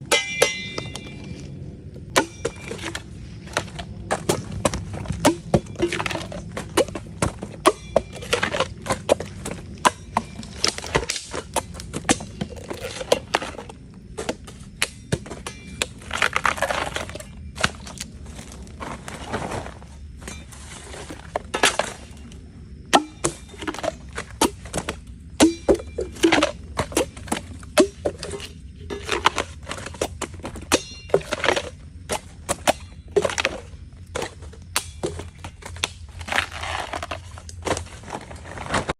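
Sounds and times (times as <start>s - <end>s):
bamboo cracking and crunching: 1.0s - 19.8s, 21.8s - 38.9s.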